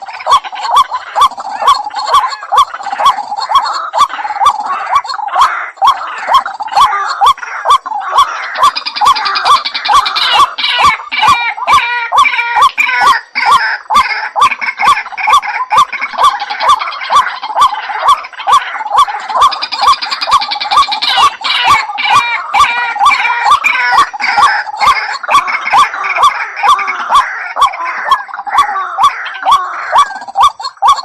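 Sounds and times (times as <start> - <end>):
higher chattering bird calls: 0.0 - 31.0
waterhen repeated call: 0.0 - 31.0.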